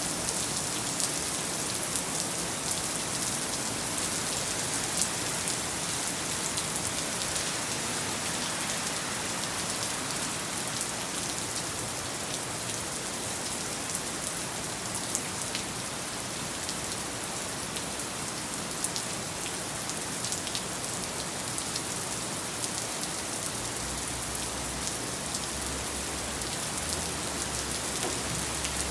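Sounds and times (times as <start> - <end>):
heavy rain falling: 0.0 - 28.9
raindrops ticking on surfaces: 0.0 - 28.9.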